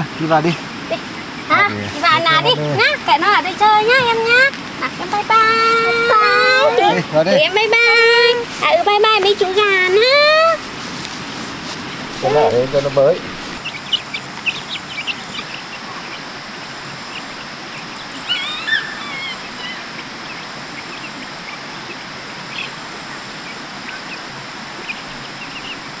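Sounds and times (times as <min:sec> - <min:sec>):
wind hiss: 0:00.0 - 0:26.0
chicks cheeping: 0:00.1 - 0:10.7, 0:11.7 - 0:26.0.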